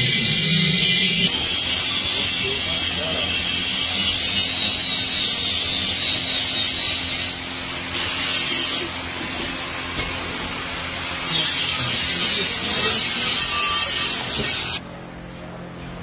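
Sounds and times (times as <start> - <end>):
furnace hissing with low hum: 0.0 - 16.0.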